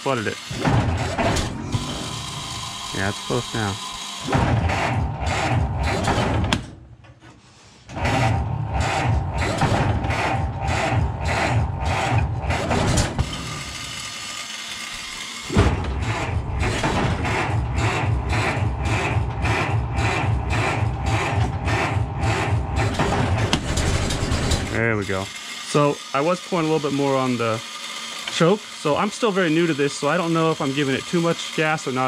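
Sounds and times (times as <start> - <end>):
electric starter cranking engine: 0.0 - 32.0.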